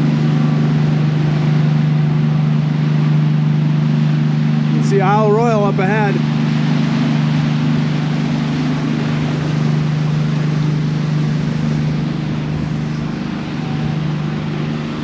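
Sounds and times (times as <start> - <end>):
ferry engines droning: 0.0 - 15.0
wind and water hiss: 0.0 - 15.0.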